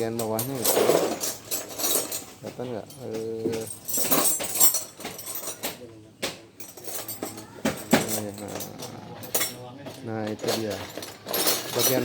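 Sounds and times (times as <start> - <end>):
hard parts clinking and knocking: 0.0 - 12.0.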